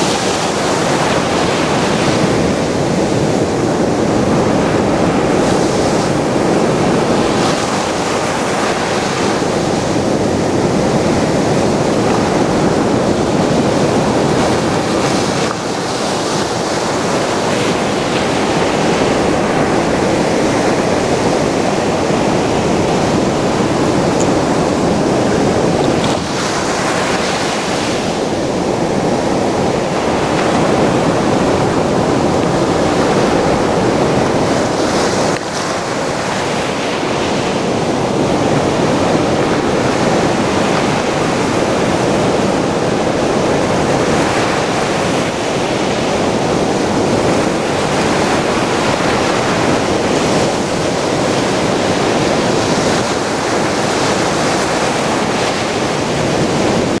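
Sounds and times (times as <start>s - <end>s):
waves breaking on beach: 0.0s - 57.0s.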